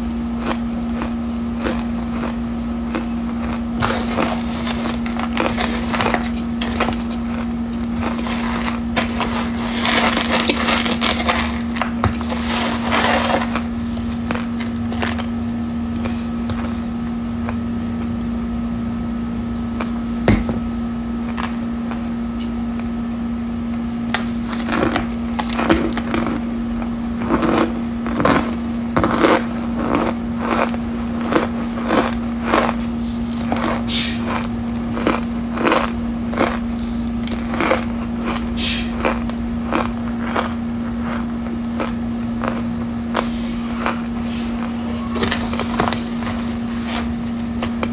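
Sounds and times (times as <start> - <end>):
steady low hum: 0.0 - 47.9
powder crunching between teeth: 0.3 - 17.6, 23.9 - 47.9.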